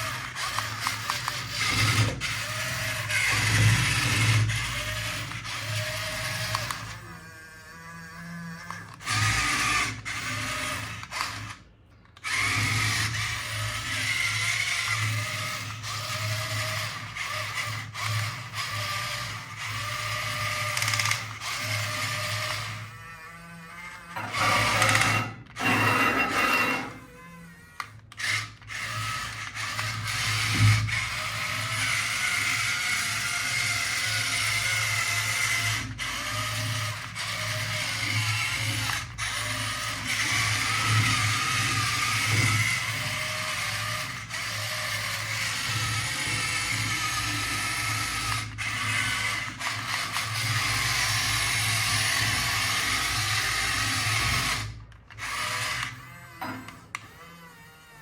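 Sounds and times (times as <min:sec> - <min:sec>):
toy electric motor whirring: 0:00.0 - 0:58.0.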